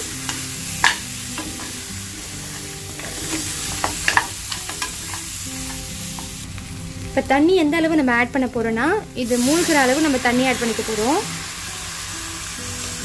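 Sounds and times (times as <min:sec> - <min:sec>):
masala sizzling: 0:00.0 - 0:13.0.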